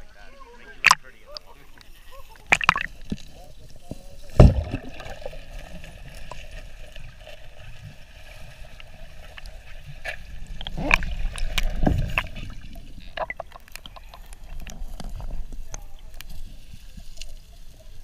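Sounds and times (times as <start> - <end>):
muffled underwater water noise: 0.0 - 18.0
water gurgling: 0.0 - 18.0.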